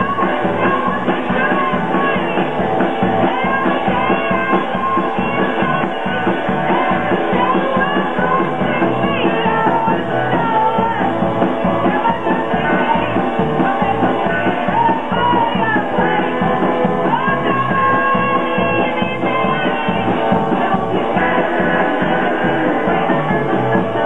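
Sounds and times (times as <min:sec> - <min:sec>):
drum kit beat: 0:00.0 - 0:24.0
electric bass: 0:00.0 - 0:24.0
electric guitar: 0:00.0 - 0:24.0
woman singing: 0:00.0 - 0:24.0.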